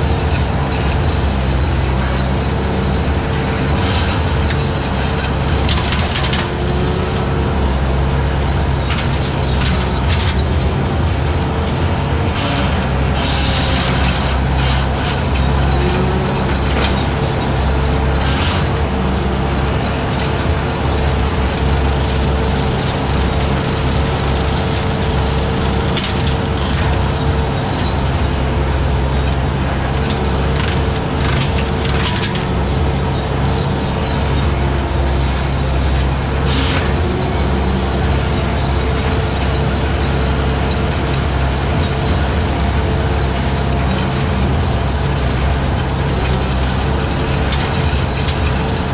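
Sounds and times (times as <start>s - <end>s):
skid steer brush cutter mowing: 0.0s - 48.9s.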